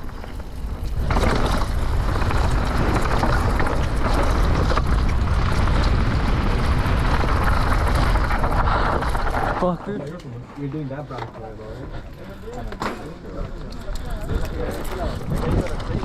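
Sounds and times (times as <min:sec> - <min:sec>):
wind rushing over microphone: 0:00.0 - 0:10.0, 0:13.1 - 0:16.0
bike tyres rolling on dirt: 0:00.0 - 0:16.0.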